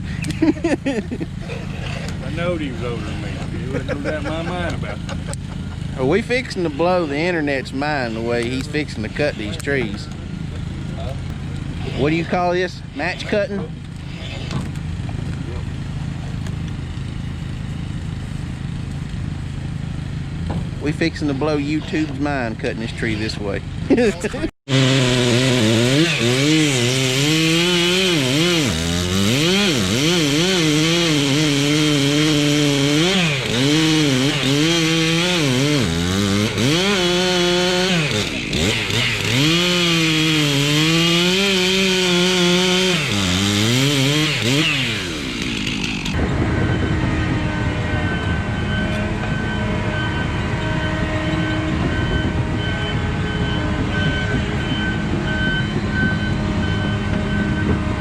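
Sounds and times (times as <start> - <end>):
chainsaw cutting wood: 0.0 - 20.8, 21.4 - 58.0.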